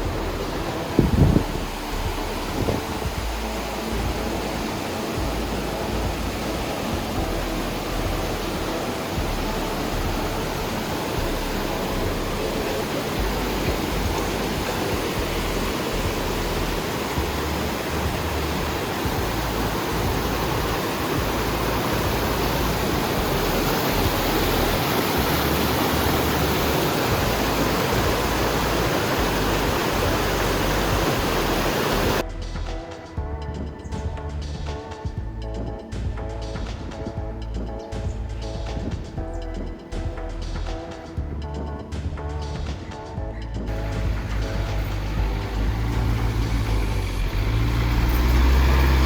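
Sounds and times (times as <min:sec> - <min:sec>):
steady rushing noise: 0:00.0 - 0:41.2, 0:43.7 - 0:49.0
music: 0:00.0 - 0:49.0.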